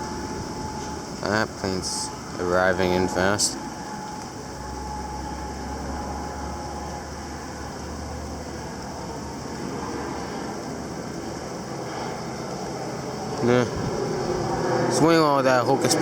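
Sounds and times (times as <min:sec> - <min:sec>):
gusty wind: 0:00.0 - 0:16.0.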